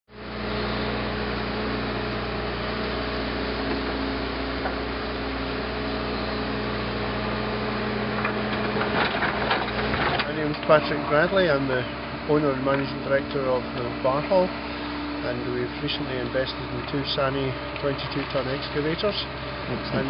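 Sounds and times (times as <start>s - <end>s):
excavator diesel engine running: 0.2s - 20.0s.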